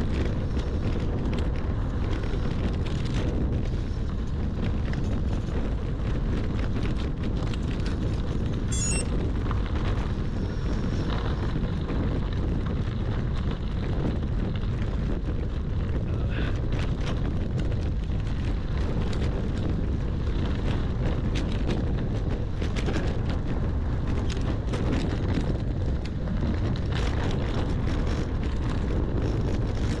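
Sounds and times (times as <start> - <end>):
bicycle clicks and rattles: 0.0 - 16.0, 16.6 - 30.0
wind buffeting microphone: 0.0 - 30.0.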